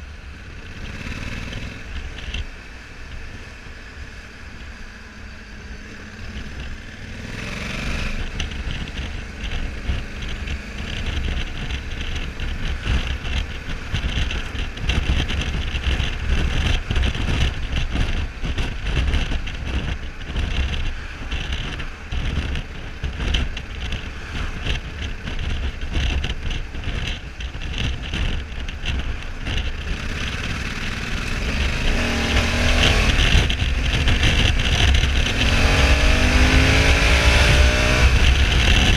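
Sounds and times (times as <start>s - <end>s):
motorcycle engine running: 0.0s - 38.9s
wind buffeting microphone: 6.2s - 38.9s.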